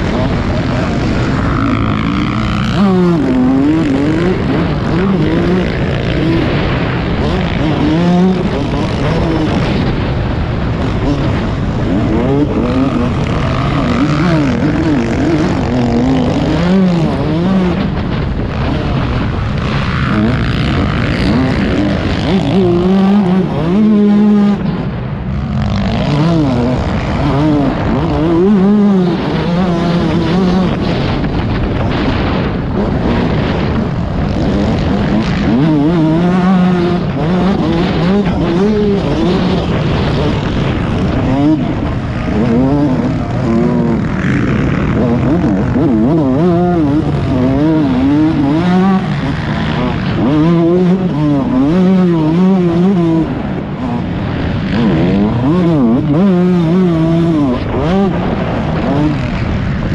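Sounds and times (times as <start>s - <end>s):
motocross bike engine revving: 0.0s - 59.9s
wind rushing over microphone: 0.0s - 59.9s.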